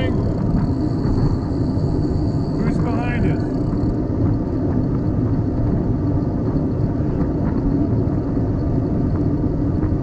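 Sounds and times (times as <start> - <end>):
rolling road noise: 0.0 - 10.0
wind rumble on microphone: 0.0 - 10.0.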